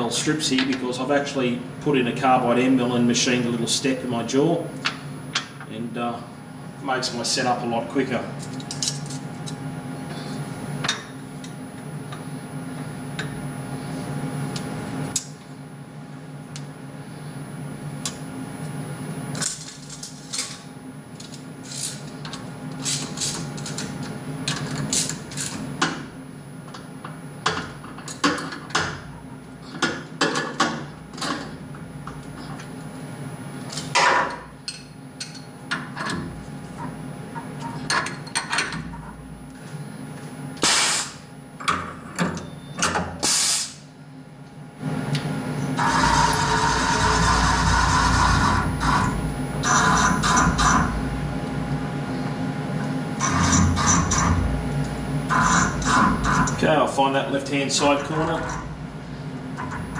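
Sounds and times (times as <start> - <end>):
steady background hum: 0.0 - 59.9.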